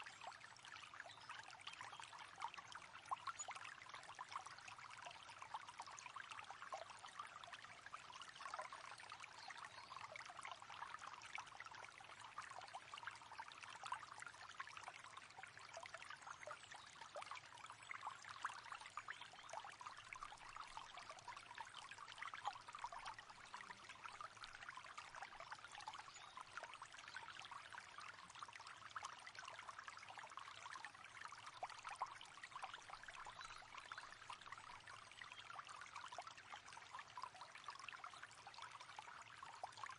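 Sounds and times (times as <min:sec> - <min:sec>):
river trickling over stones: 0:00.0 - 0:39.9.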